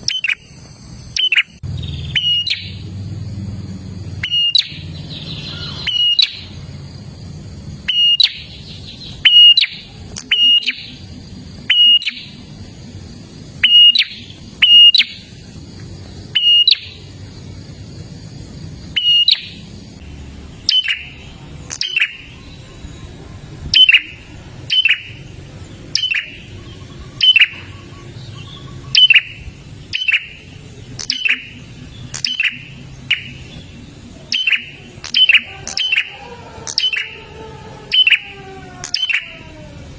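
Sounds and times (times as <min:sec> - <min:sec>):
bird calling with falling notes: 0:00.0 - 0:02.9, 0:04.0 - 0:07.2, 0:07.8 - 0:39.9
low steady hum: 0:00.0 - 0:39.9.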